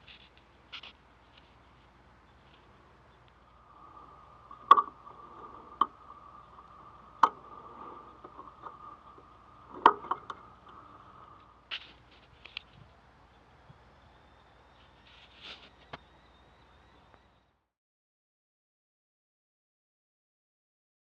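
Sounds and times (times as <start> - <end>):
steady high hum: 0.0 - 17.7.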